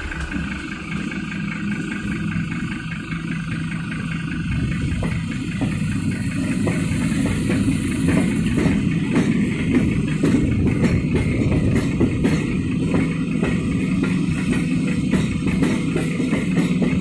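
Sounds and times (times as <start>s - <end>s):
electric locomotive rumbling past: 0.0s - 17.0s.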